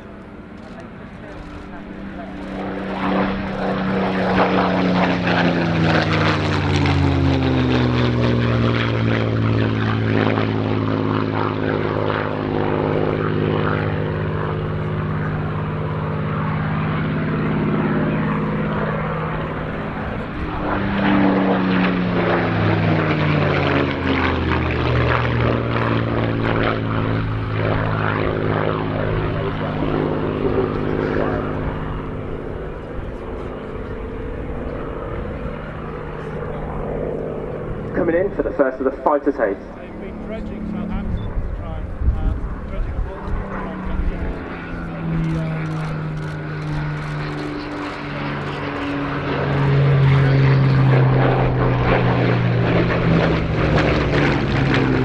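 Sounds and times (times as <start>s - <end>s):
propeller plane flying past: 0.0s - 55.0s.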